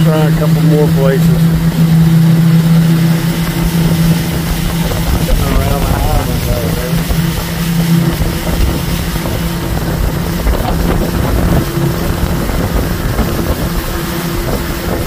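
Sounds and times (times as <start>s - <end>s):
motorboat engine droning: 0.0s - 15.0s
wind on microphone: 0.0s - 15.0s.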